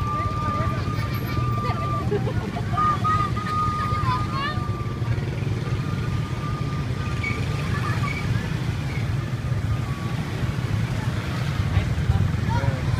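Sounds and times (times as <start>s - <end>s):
scooter engines passing: 0.0s - 12.9s
voices: 0.0s - 12.9s.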